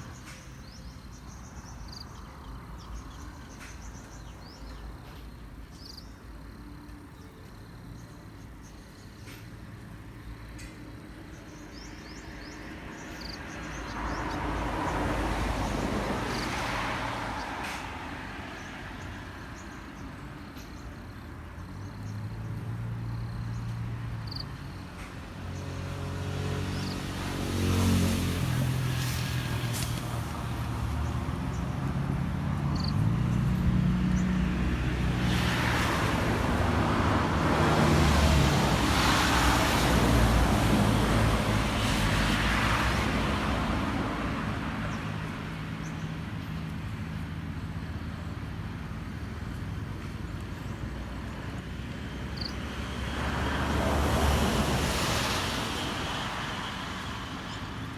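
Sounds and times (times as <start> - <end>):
vehicles passing: 0.0 - 57.9.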